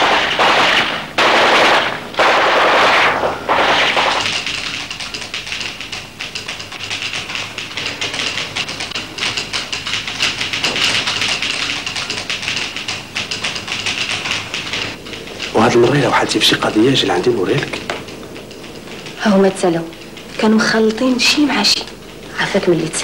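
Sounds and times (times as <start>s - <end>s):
typewriter keystrikes clattering: 0.0s - 23.0s.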